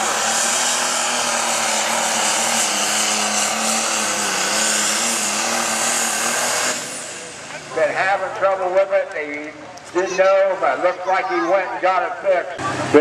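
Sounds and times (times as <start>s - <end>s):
tractor engine running hard: 0.0s - 9.9s, 11.5s - 13.0s.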